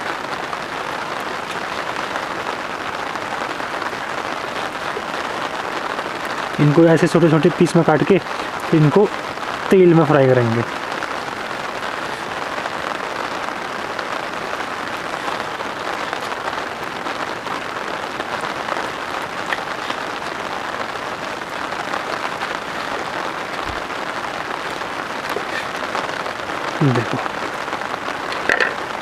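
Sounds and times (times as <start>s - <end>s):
heavy rain: 0.0s - 29.0s
drops ticking: 0.1s - 12.6s, 13.9s - 29.0s.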